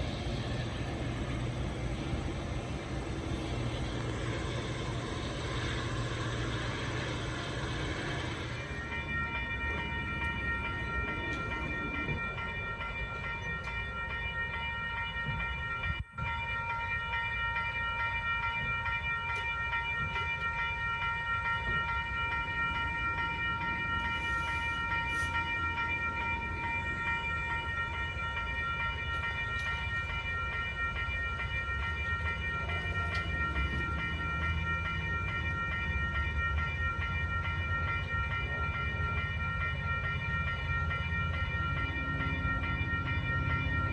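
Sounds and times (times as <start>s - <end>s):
crossing warning bells ringing: 0.0s - 43.9s
train rumbling: 0.0s - 43.9s.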